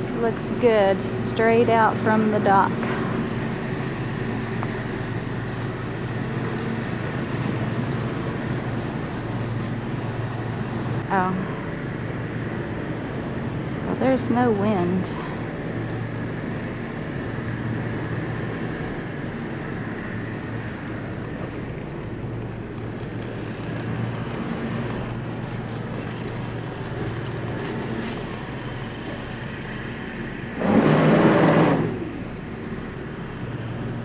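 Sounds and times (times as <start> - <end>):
boat engines humming: 0.0 - 34.0.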